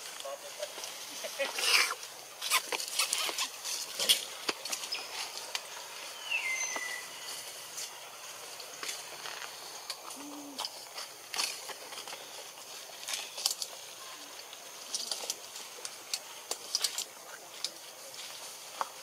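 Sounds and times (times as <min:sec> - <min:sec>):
rustling crackles: 0:00.0 - 0:19.0.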